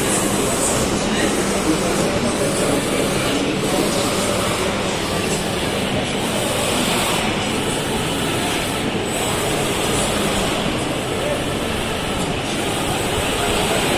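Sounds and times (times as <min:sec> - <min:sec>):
metal cutting machine running: 0:00.0 - 0:13.9.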